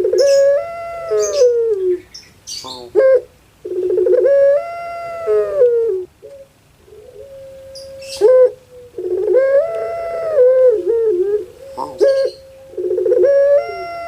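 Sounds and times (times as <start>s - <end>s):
dove calling: 0.0s - 14.0s.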